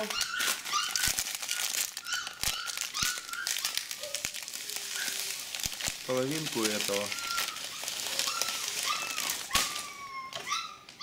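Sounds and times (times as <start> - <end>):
cereal pouring into water: 0.0 - 9.6
plastic bag crinkling: 0.0 - 10.5.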